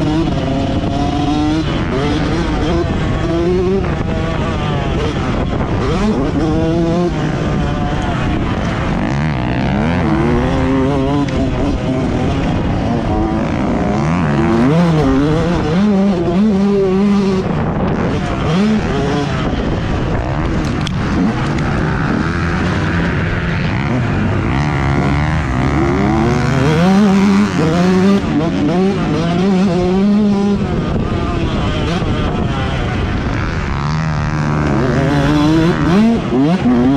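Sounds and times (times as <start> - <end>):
motocross bike engine revving: 0.0 - 36.9
wind rush on microphone: 0.0 - 36.9.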